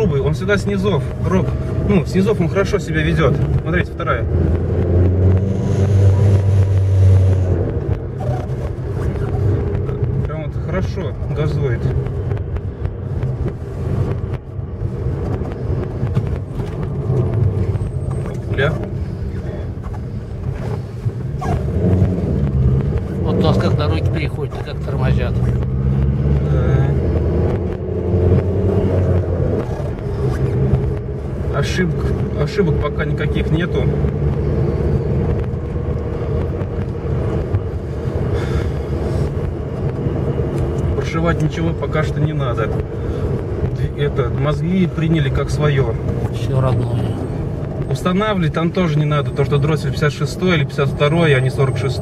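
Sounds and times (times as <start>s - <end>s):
car engine rumble from cabin: 0.0s - 52.0s
road noise: 0.0s - 52.0s.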